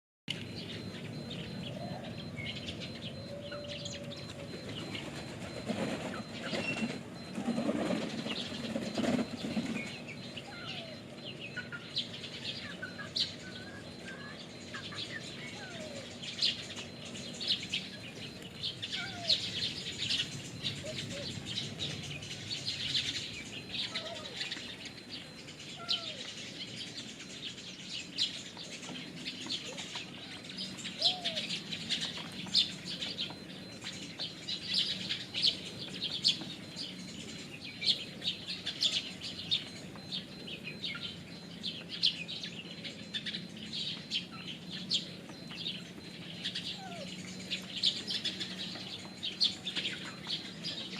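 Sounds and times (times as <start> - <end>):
birds chirping rapidly: 0.3 - 50.9
low curved bird calls: 0.3 - 50.9.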